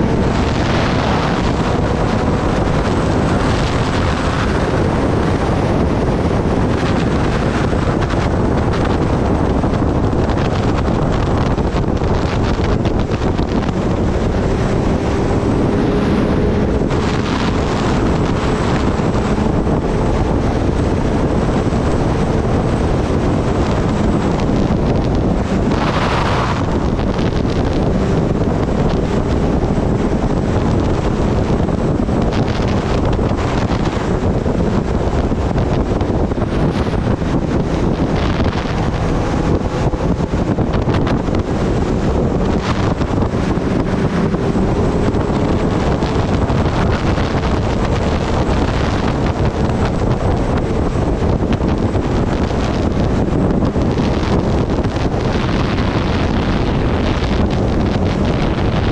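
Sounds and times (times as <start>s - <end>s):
motorcycle engine running: 0.0s - 58.9s
wind rushing over microphone: 0.0s - 58.9s.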